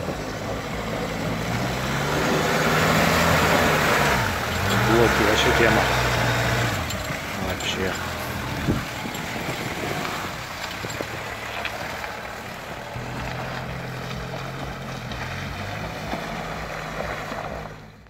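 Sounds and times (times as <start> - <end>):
car engine pulling: 0.0 - 18.0.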